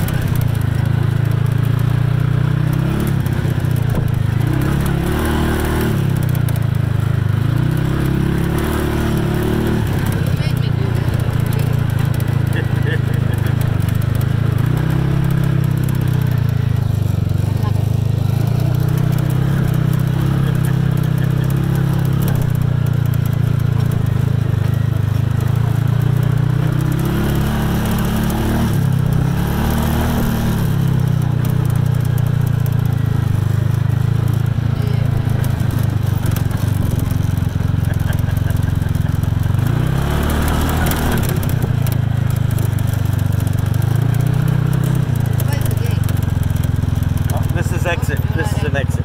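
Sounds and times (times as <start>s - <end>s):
vehicle engine running: 0.0s - 49.0s.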